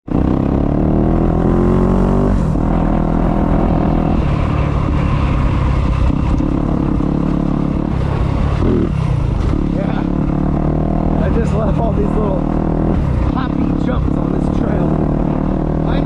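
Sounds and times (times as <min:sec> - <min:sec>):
dirt bike engine accelerating: 0:00.1 - 0:16.0.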